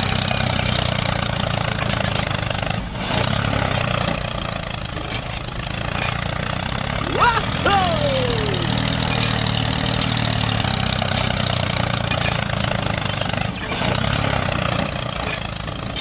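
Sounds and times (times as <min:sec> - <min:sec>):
engine humming steadily: 0:00.0 - 0:16.0.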